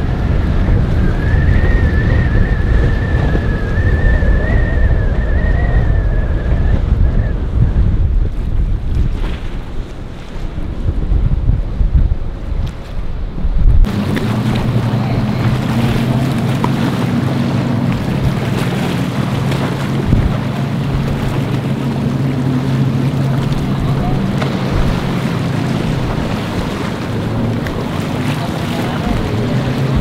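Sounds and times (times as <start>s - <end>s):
boat engines droning: 0.0s - 30.0s
rough water washing: 0.0s - 30.0s
wind buffeting microphone: 0.0s - 30.0s.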